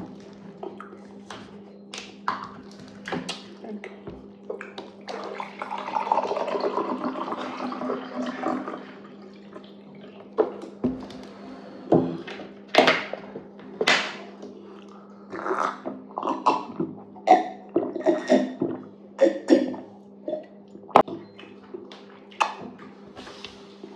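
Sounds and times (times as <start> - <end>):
wet liquid eating noise: 0.0 - 11.4, 14.4 - 23.9.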